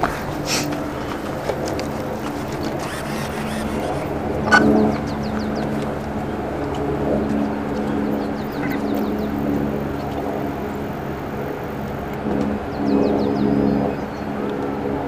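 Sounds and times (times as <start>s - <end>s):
electric motor and propeller running: 0.0s - 13.7s.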